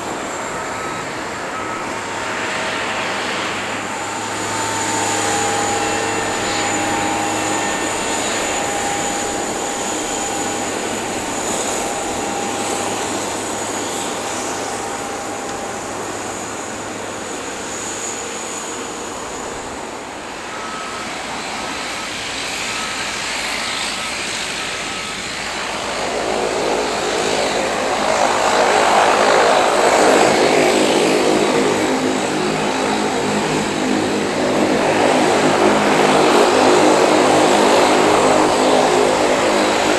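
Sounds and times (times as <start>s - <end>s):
jet engine hum and whine: 0.0s - 39.9s
turboprop propeller drone: 0.0s - 39.9s.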